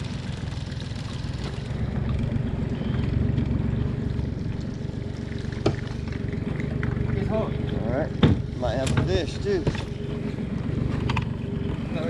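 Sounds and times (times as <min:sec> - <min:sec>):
small boat motor: 0:00.0 - 0:12.0
water churning along hull: 0:00.0 - 0:12.0.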